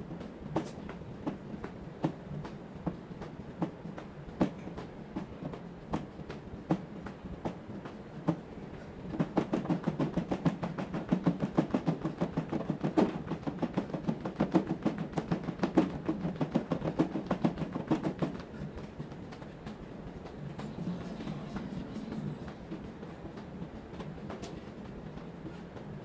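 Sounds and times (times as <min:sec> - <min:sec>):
footsteps on plastic step platform: 0:00.2 - 0:26.0.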